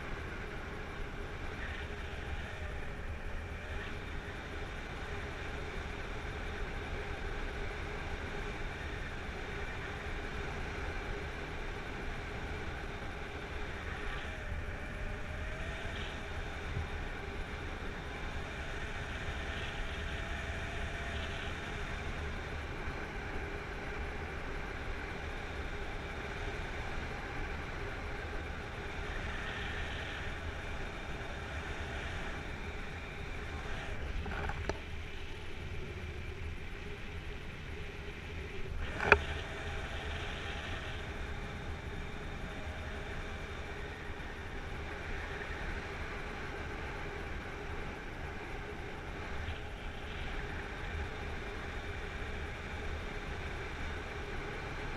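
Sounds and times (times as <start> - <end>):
wind rushing over camera: 0.0 - 54.9.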